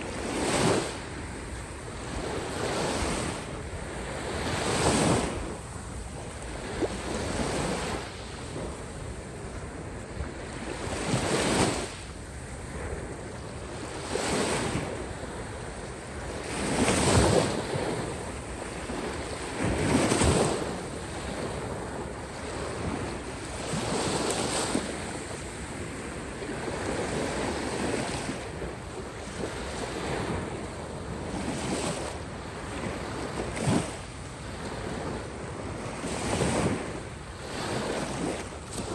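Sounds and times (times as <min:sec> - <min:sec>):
waves washing onto shore: 0:00.0 - 0:38.9
wind on microphone: 0:00.0 - 0:38.9.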